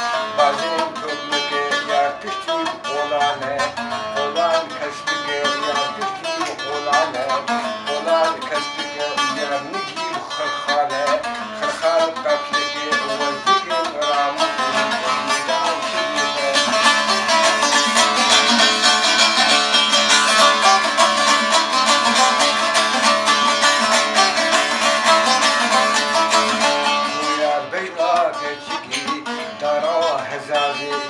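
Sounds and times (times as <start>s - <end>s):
long-necked lute plucked: 0.0s - 31.0s.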